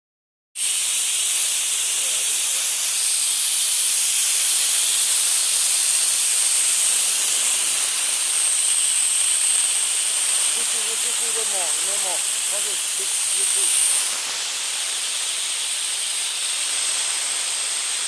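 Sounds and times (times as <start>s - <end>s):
compressed air hissing: 0.6s - 18.0s.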